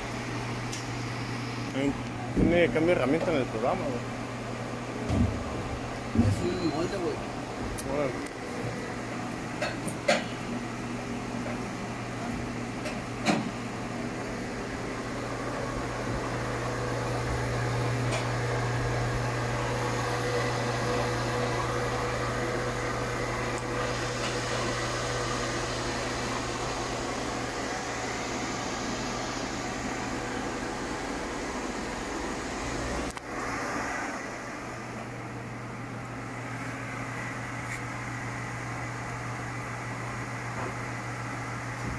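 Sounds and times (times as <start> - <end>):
machine hum with whine: 0.0 - 41.9.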